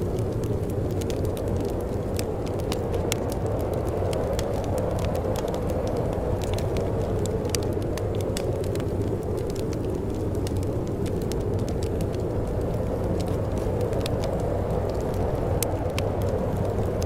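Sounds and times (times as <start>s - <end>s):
low rush of wind: 0.0s - 17.0s
wood fire crackling and popping: 0.0s - 17.0s.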